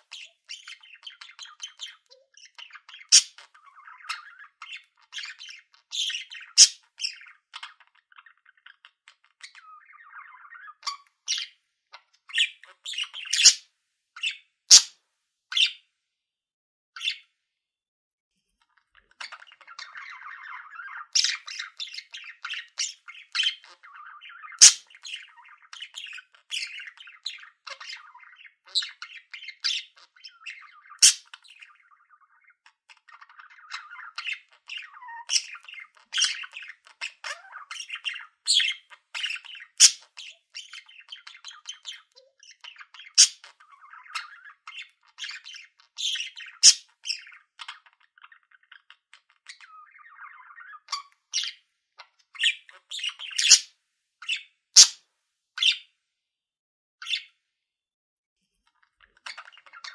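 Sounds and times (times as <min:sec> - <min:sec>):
budgerigars chattering: 0:00.0 - 0:11.6, 0:12.2 - 0:13.6, 0:14.2 - 0:14.9, 0:19.0 - 0:51.6, 0:52.3 - 0:55.0, 0:55.6 - 0:55.8, 0:59.1 - 0:59.9.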